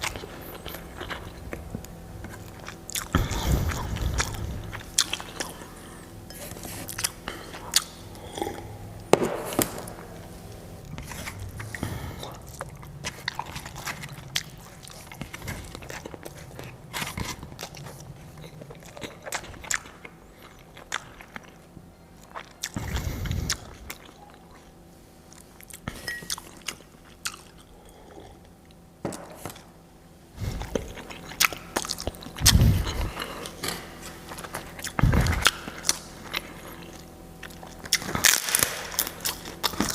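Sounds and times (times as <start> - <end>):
person chewing and crunching: 0.0 - 29.8, 30.4 - 39.9.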